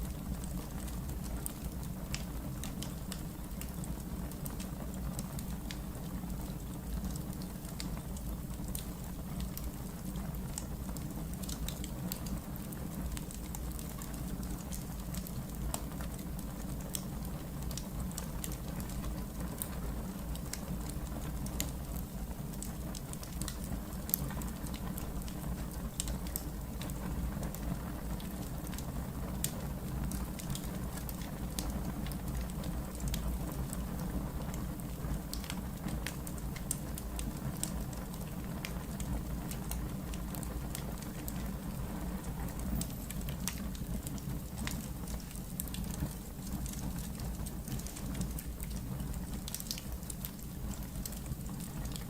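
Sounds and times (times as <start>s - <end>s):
fire low rumble: 0.0s - 52.0s
wood fire crackling and popping: 0.0s - 52.0s.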